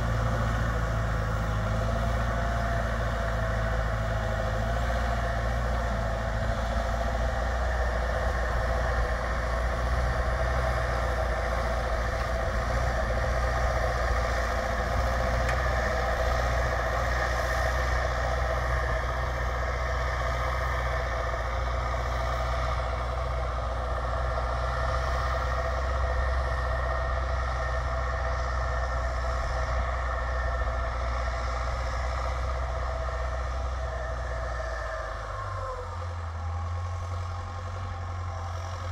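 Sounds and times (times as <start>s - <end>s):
tractor diesel engine rumbling: 0.0s - 38.9s.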